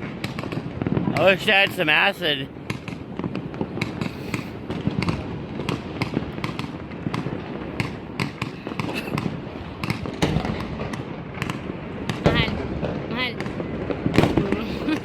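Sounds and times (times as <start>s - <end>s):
fireworks cracking and popping: 0.0s - 15.0s
low rumble of bursting shells: 0.0s - 15.0s.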